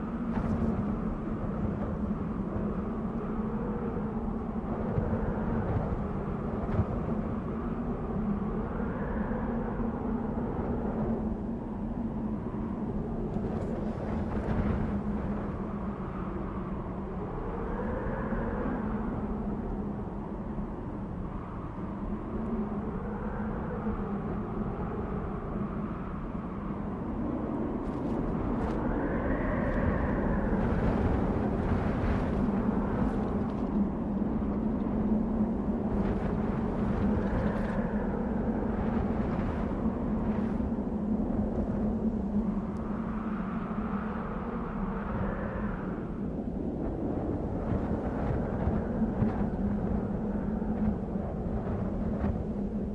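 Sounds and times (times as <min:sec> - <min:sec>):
wind howling in gusts: 0:00.0 - 0:52.9.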